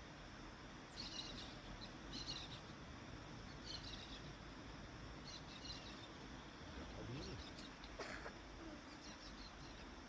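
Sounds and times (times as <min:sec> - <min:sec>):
birds chirping faintly: 0:00.0 - 0:10.0.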